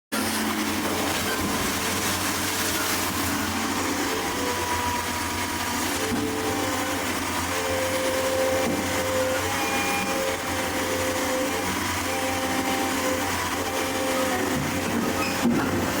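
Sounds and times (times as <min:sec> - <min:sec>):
motor whirring drone: 0:03.2 - 0:16.0.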